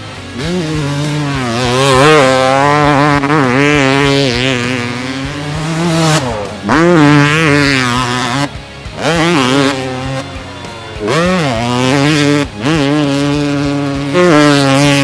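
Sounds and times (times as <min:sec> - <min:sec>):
dirt bike engine under throttle: 0:00.0 - 0:15.0.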